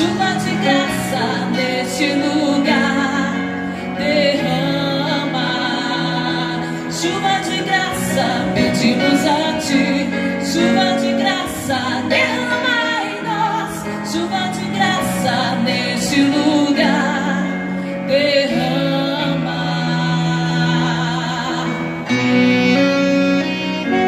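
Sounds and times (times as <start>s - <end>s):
instrumental accompaniment: 0.0s - 24.0s
person singing gospel melody: 0.0s - 24.0s.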